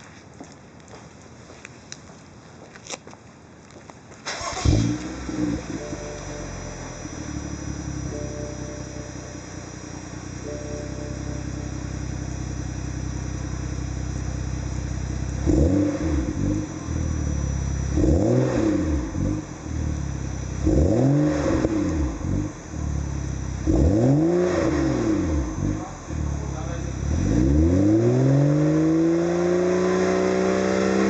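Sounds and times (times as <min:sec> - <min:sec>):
car engine idling and revving: 0:04.2 - 0:31.0.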